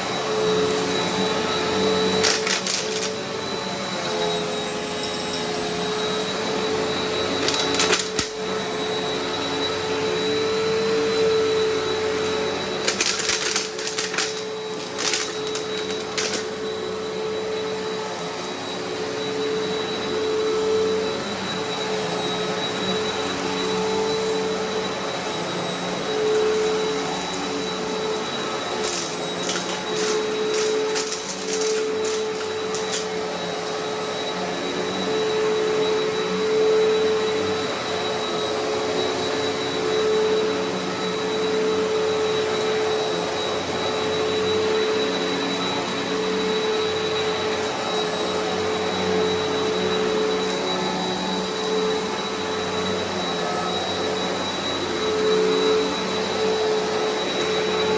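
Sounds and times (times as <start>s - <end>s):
upright vacuum cleaner running: 0.0s - 57.9s.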